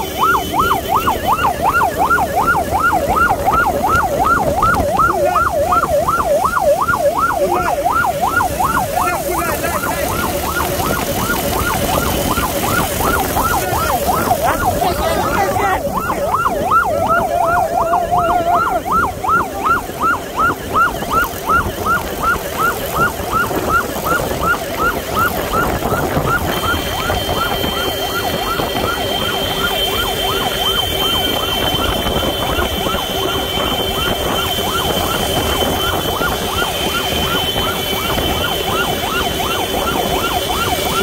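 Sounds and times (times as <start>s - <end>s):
motorcycle engines: 0.0s - 41.0s
road traffic: 0.0s - 41.0s
siren yelping: 0.0s - 41.0s.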